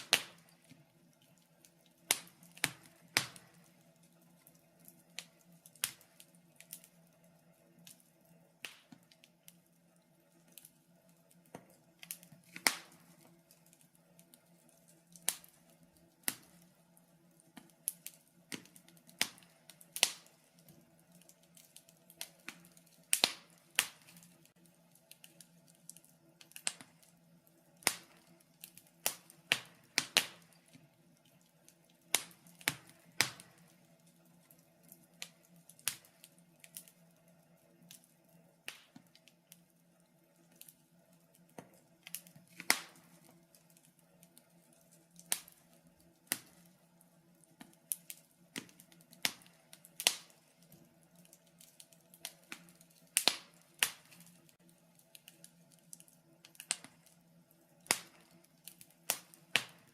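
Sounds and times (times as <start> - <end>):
faint steady hum: 0.0 - 59.9
fireplace fire crackling: 0.0 - 59.9.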